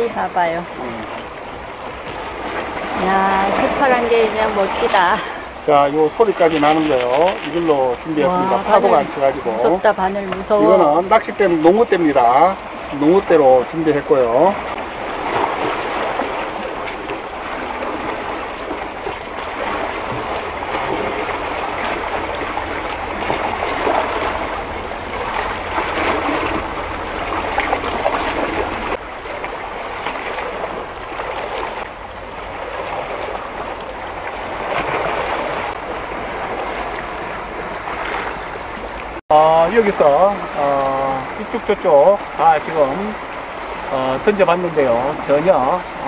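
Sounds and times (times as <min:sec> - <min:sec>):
sea water lapping against rocks: 0:00.0 - 0:39.2, 0:39.8 - 0:46.0.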